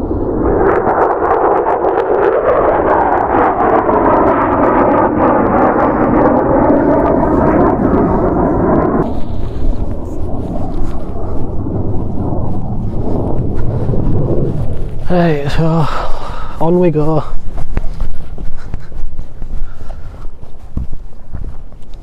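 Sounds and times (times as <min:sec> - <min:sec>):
jet aircraft roar passing over: 0:00.0 - 0:22.0.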